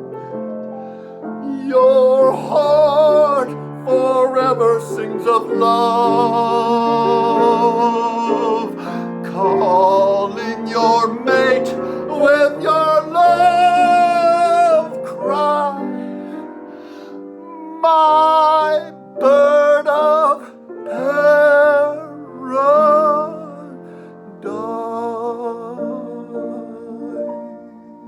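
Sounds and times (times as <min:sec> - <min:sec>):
person singing with vibrato: 0:01.4 - 0:28.0.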